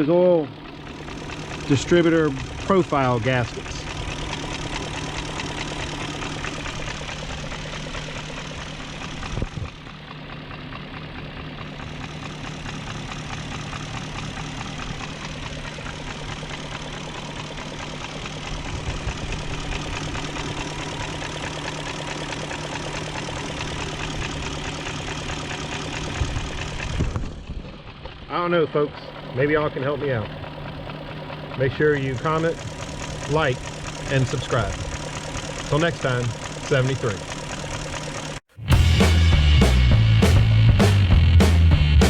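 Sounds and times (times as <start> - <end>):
car engine idling with ticking: 0.0 - 38.5.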